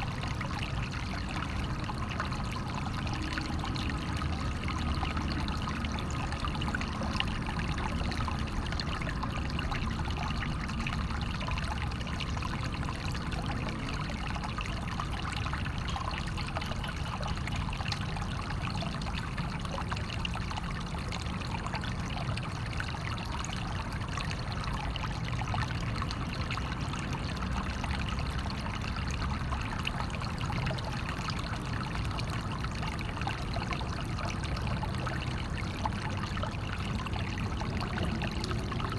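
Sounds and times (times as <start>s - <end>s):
water flowing and splashing: 0.0s - 38.9s.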